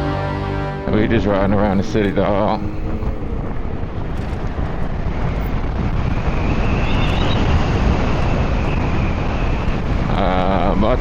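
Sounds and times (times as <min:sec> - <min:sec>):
wind buffeting microphone: 0:01.0 - 0:11.0.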